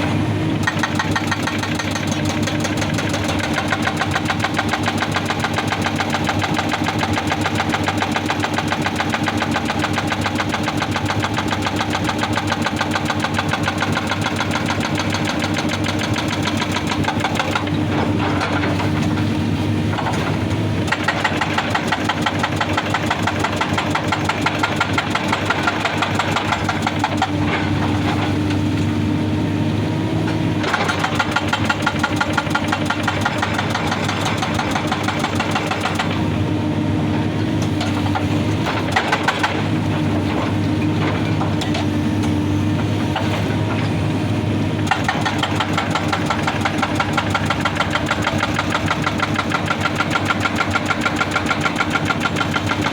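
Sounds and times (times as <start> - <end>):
excavator diesel engine: 0.0 - 52.9
hydraulic breaker hammering rock: 0.6 - 28.6, 30.6 - 36.3, 37.6 - 44.0, 44.7 - 52.9.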